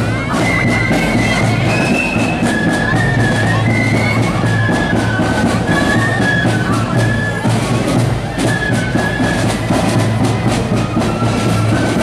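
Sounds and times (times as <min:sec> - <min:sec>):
high flutes playing melody: 0:00.0 - 0:12.0
steady drum beats: 0:00.0 - 0:12.0.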